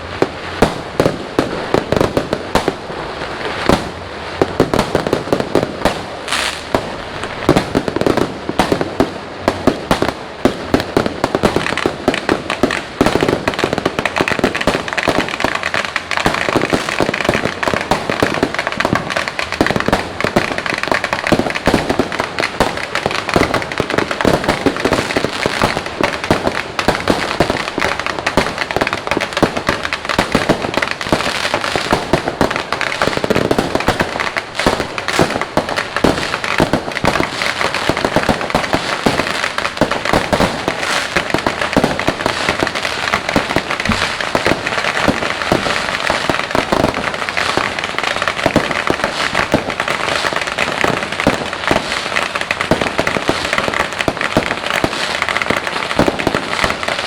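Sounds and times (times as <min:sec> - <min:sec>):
fireworks and firecrackers banging: 0:00.0 - 0:57.0.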